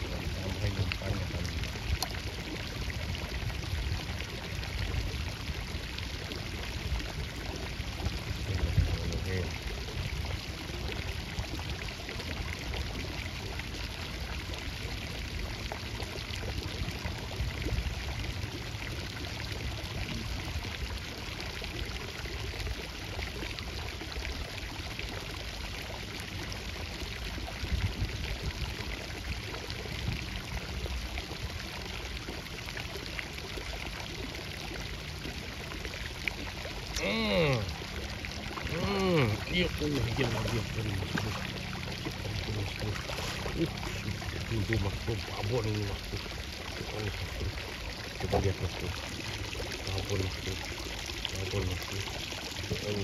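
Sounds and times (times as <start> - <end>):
water pouring: 0.0 - 53.0.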